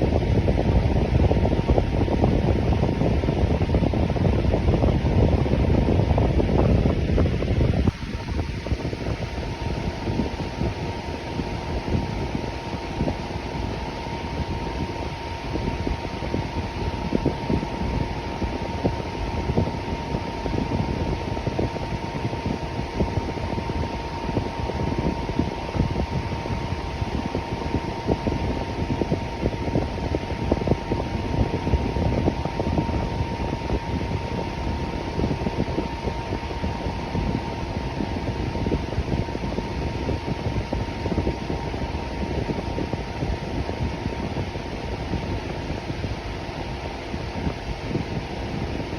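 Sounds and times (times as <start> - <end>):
electric fan running: 0.0 - 48.9.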